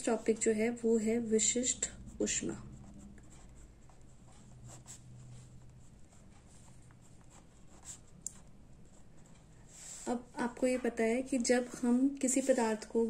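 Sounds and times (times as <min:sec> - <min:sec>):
pen scratching on paper: 0:00.0 - 0:10.0, 0:11.4 - 0:13.0.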